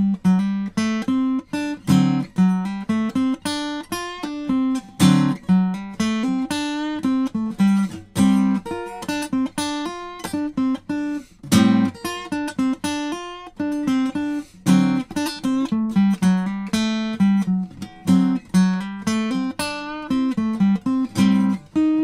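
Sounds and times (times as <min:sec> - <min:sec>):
acoustic guitar blues licks: 0:00.0 - 0:22.0.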